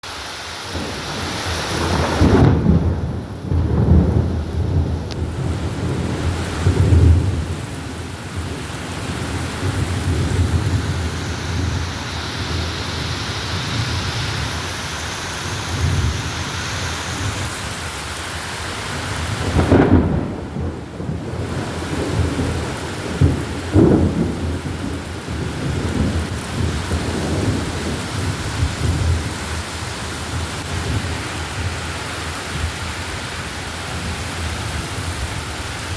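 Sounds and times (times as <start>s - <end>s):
torrential rain pouring: 0.0s - 35.9s.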